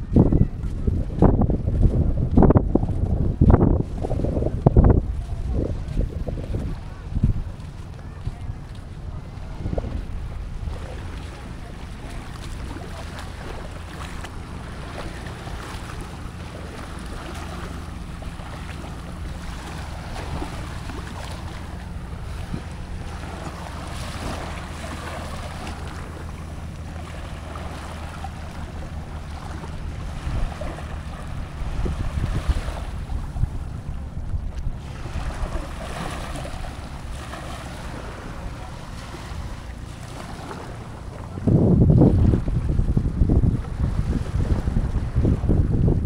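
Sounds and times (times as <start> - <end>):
small waves on sandy beach: 0.0 - 46.0
wind buffeting microphone: 0.0 - 46.0.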